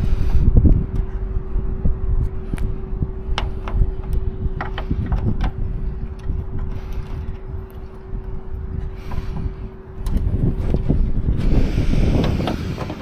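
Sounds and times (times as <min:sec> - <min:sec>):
low uneven rumble: 0:00.0 - 0:13.0
steady hum: 0:00.0 - 0:13.0.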